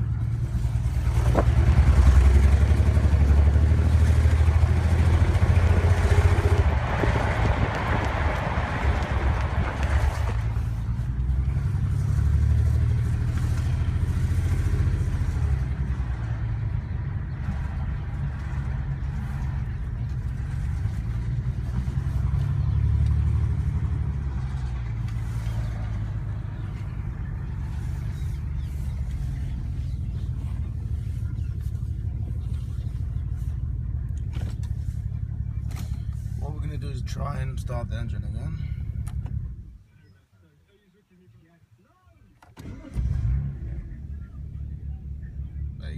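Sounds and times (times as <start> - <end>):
car engine uneven rumble: 0.0 - 45.9.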